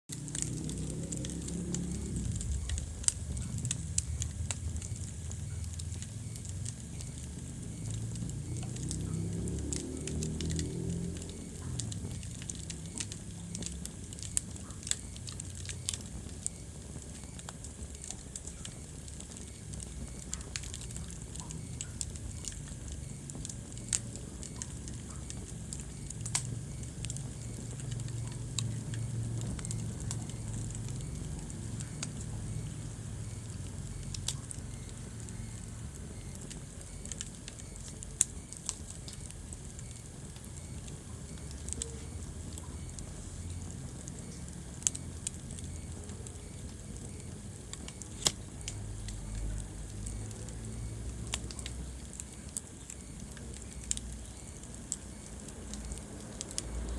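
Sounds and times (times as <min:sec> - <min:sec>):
burning wood crackling: 0:00.1 - 0:56.9
fire rumbling and hissing: 0:00.1 - 0:56.9.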